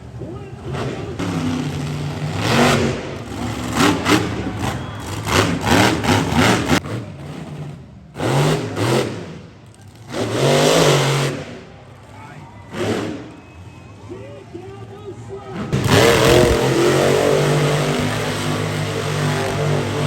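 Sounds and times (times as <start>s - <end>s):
monster truck engine revving: 0.1s - 14.0s, 15.5s - 20.0s.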